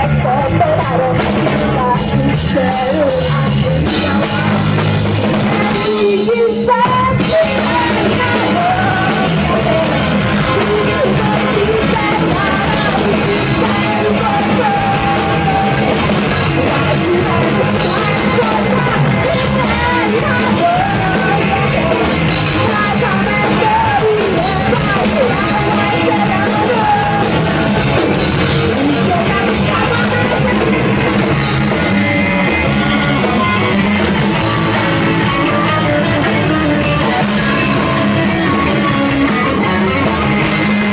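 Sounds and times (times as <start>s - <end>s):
person singing: 0.0s - 40.9s
rock band playing loud: 0.0s - 40.9s.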